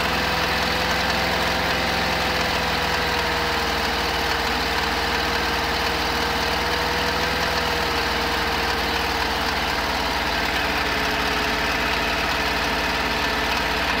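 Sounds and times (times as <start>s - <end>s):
car engine idling: 0.0s - 14.0s
engine knocking: 0.0s - 14.0s.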